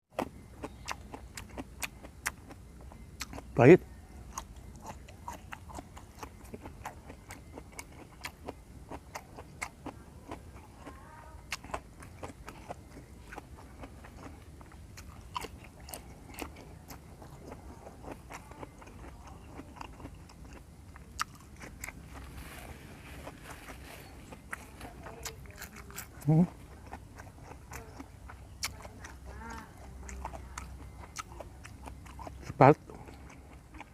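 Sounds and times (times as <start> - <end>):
person chewing crunchy vegetables: 0.2 - 33.9.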